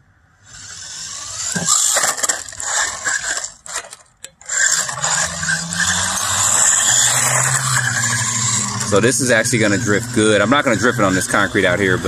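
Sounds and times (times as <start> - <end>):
rc truck tyres and drivetrain hiss: 0.3 - 12.0
truck clacking on ground: 1.4 - 12.0.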